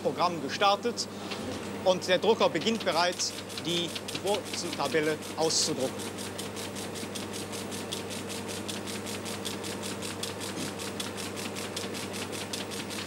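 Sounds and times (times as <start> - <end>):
machine hum: 0.0 - 13.0
line printer clattering: 1.4 - 13.0.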